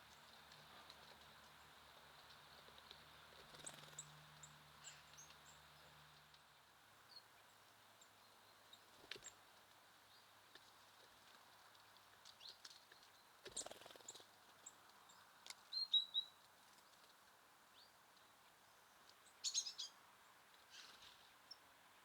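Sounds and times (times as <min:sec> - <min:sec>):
songbird chirps: 0:00.0 - 0:22.0.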